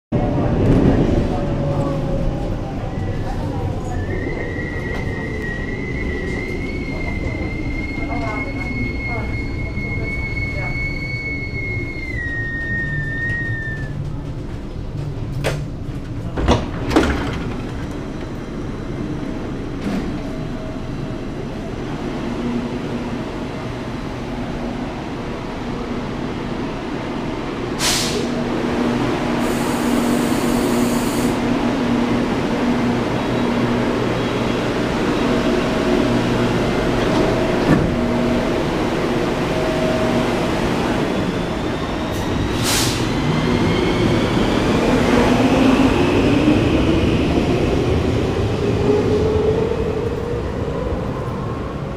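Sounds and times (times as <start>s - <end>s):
metro train humming: 0.1s - 51.9s.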